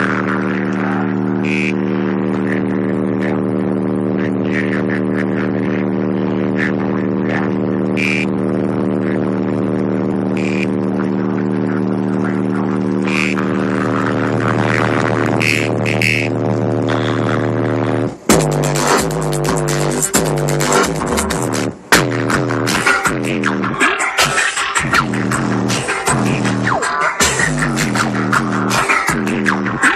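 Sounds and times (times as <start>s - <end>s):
deep bass tone from subwoofers: 0.0s - 29.9s.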